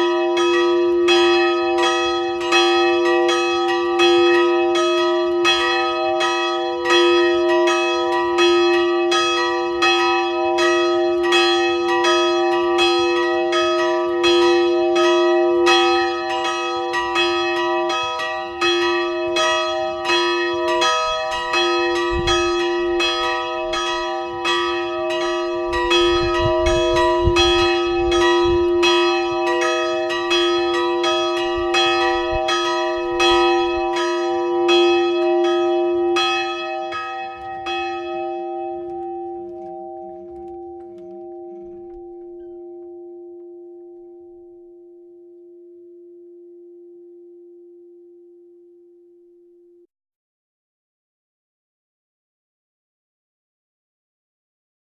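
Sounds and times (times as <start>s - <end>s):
church bells ringing in peal: 0.0s - 49.5s.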